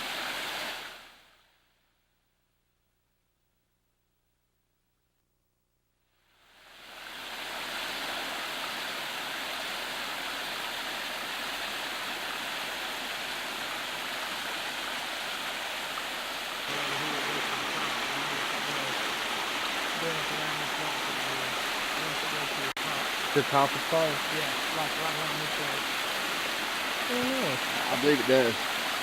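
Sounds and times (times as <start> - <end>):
water rushing: 0.0 - 1.2, 6.6 - 29.0.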